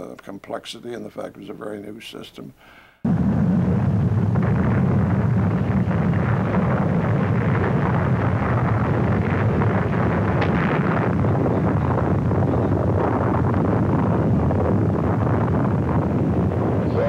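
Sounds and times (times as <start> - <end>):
rocket engine rumble: 3.0 - 17.0.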